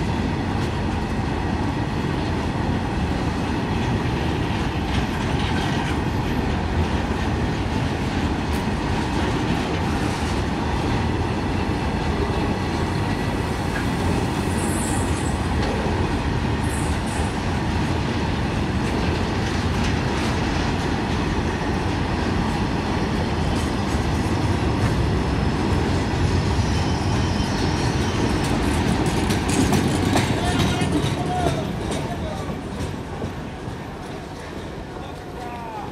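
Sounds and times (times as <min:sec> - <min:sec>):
freight wagons rumbling on rails: 0:00.0 - 0:35.9.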